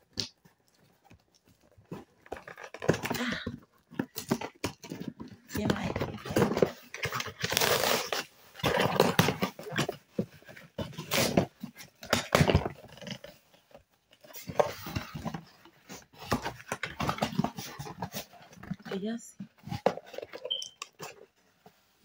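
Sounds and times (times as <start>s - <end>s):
packaging rustling and tearing: 0.0s - 21.4s.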